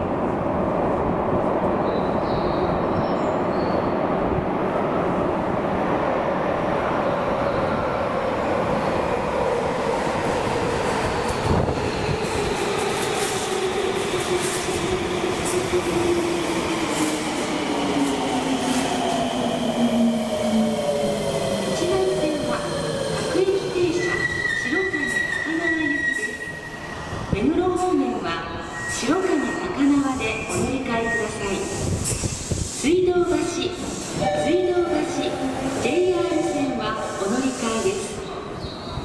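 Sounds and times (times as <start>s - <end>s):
subway train braking: 0.0s - 39.0s.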